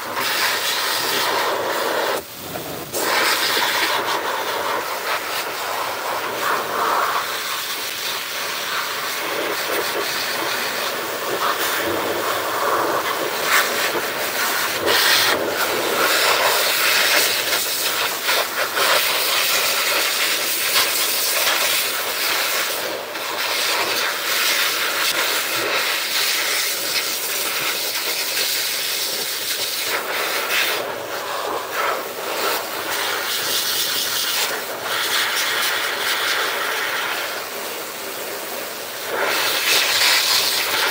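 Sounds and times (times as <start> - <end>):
blower dryer rushing air: 0.0 - 40.9.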